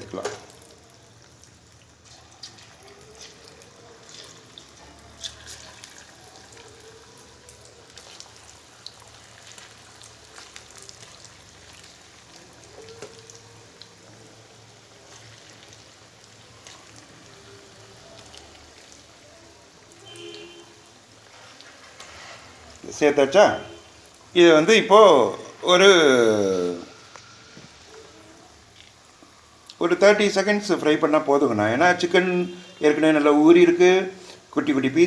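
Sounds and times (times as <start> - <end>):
chicken deep-frying in oil: 0.0 - 35.0.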